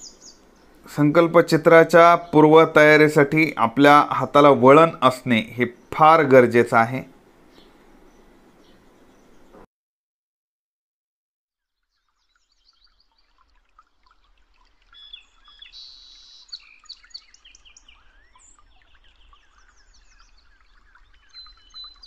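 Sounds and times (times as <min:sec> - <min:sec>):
birds chirping: 0:00.0 - 0:09.7, 0:11.9 - 0:22.0.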